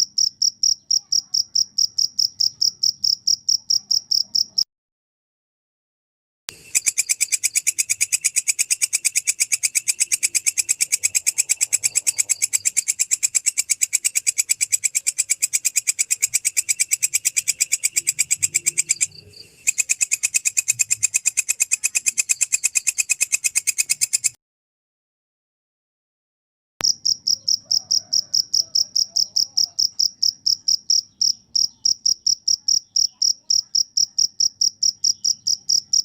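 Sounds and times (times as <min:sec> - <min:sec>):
cricket chirping: 0:00.0 - 0:04.6, 0:06.5 - 0:24.4, 0:26.8 - 0:36.0.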